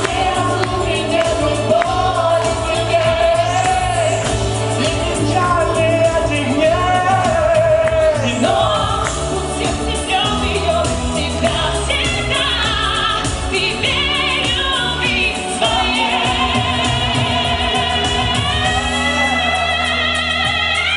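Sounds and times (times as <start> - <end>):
loud pop music accompaniment: 0.0 - 20.9
person singing into microphone: 0.0 - 20.9.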